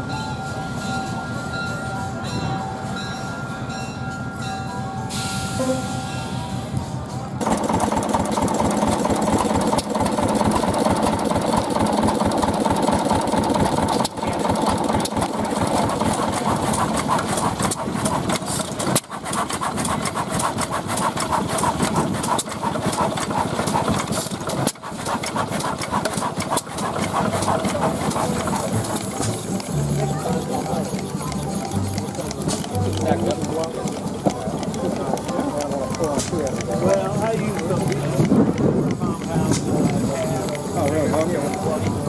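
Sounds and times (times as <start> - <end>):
stationary engines running: 6.8 - 42.0.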